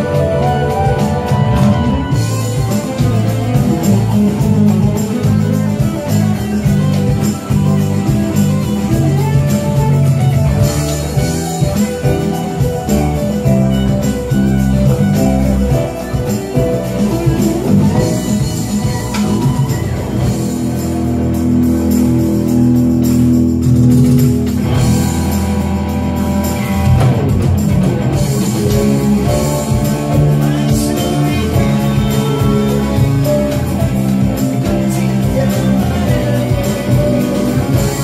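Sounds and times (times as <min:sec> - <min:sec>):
bass guitar: 0:00.0 - 0:38.0
electric guitar: 0:00.0 - 0:38.0
electric keyboards: 0:00.0 - 0:38.0
steady drum beat: 0:00.0 - 0:38.0.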